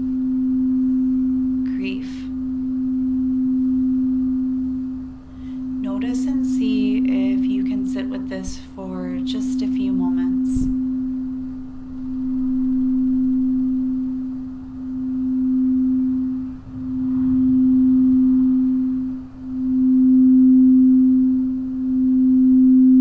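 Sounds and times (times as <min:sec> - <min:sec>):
crystal singing bowl tone: 0:00.0 - 0:23.0.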